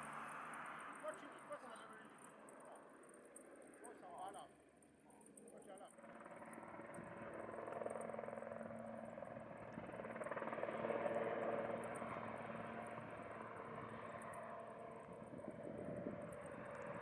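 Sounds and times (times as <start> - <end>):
aircraft engines droning: 0.0 - 17.0.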